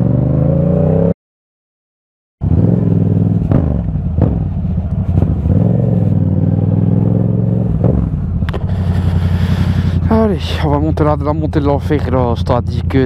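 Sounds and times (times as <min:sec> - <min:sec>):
motorcycle engine running: 0:02.4 - 0:13.0.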